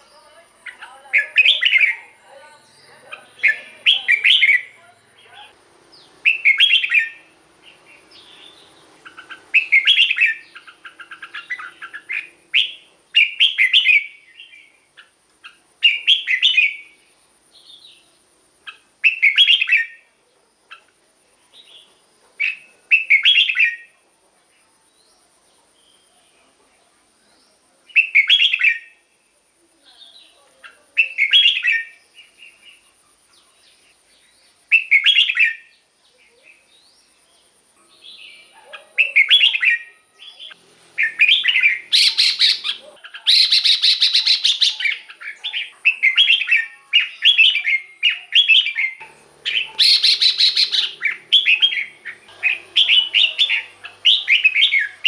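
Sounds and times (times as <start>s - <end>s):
bulbul singing warbling phrases: 0.0s - 20.1s, 21.6s - 24.0s, 27.9s - 55.0s.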